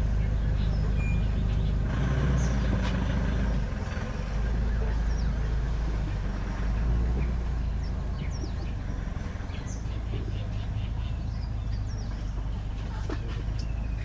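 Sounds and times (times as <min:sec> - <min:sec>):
birds chirping faintly: 0:00.0 - 0:14.0
vehicle engine rumbling: 0:00.0 - 0:14.0.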